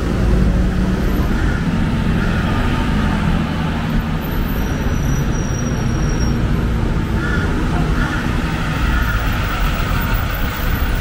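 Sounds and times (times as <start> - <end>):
bus driving past: 0.0 - 11.0
road traffic: 0.0 - 11.0.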